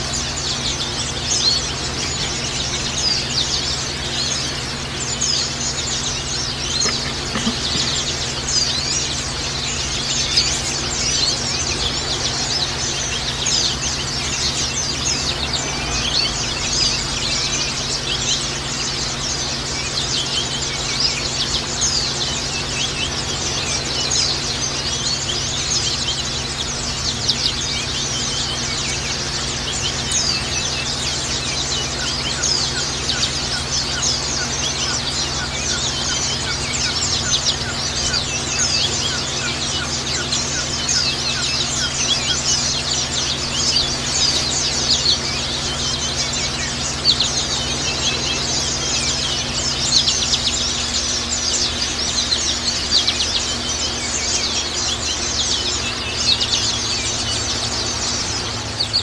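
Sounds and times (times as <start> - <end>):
flock of birds chirping: 0.0 - 59.0.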